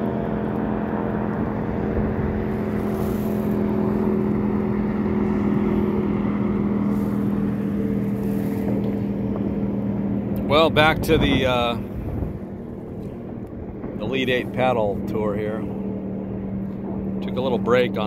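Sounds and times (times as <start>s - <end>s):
speedboat engine running: 0.0s - 18.0s.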